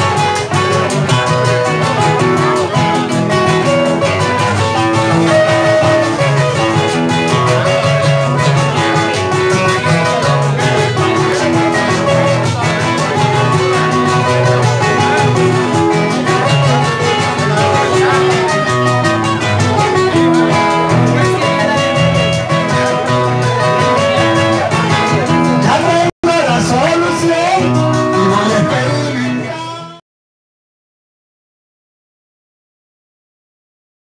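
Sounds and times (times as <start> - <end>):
acoustic guitars strumming: 0.0 - 30.0
picked guitar melody: 0.0 - 30.0.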